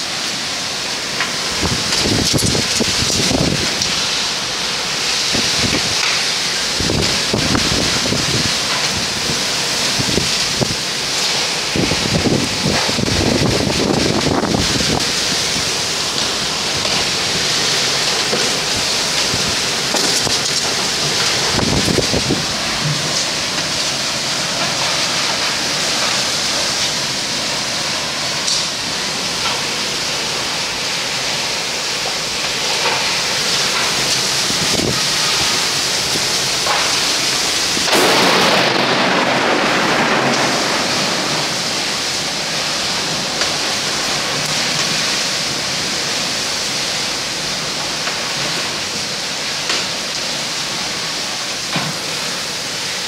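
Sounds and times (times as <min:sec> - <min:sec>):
torrential rain and wind: 0:00.0 - 0:53.0.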